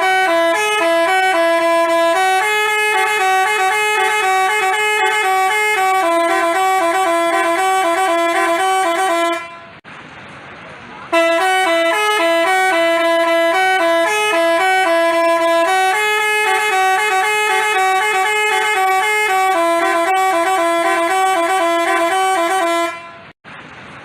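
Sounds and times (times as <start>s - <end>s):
multi-tone bus horn tune: 0.0s - 9.8s, 11.1s - 23.4s.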